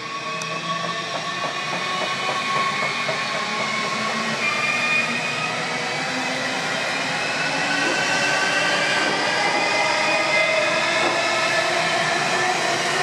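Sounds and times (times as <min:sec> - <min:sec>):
train wheels rolling on rail: 0:00.0 - 0:13.0.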